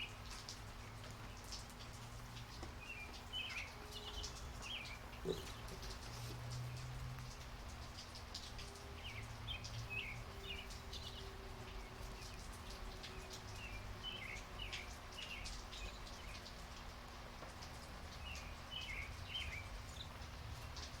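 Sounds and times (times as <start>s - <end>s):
light rain falling: 0.0s - 21.0s
raindrops ticking on a surface: 0.0s - 21.0s.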